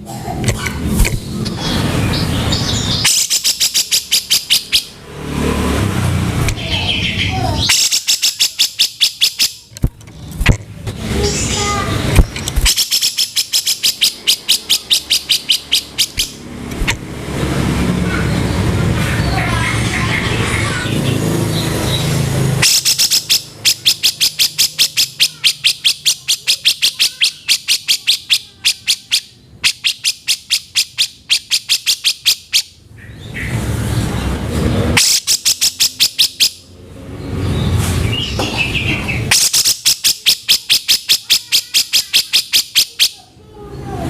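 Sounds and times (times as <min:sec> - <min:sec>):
bird harsh chattering: 0:00.6 - 0:05.0, 0:06.5 - 0:10.5, 0:11.2 - 0:17.0, 0:18.2 - 0:33.6, 0:35.0 - 0:36.7, 0:38.1 - 0:43.4.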